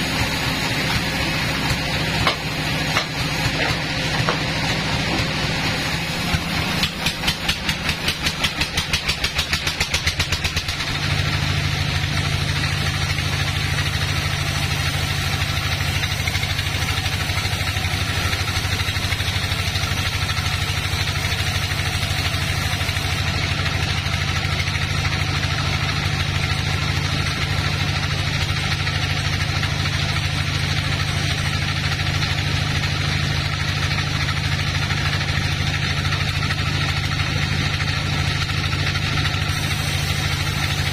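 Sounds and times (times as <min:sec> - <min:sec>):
band sawmill humming: 0:00.0 - 0:09.3, 0:10.1 - 0:40.9.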